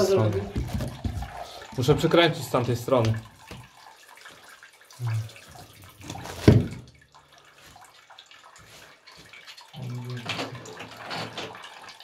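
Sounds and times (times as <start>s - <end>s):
water dripping and trickling: 0.0s - 12.0s.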